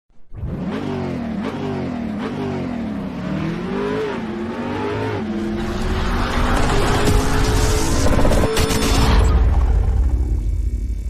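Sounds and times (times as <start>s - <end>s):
car engine revving: 0.3s - 10.2s.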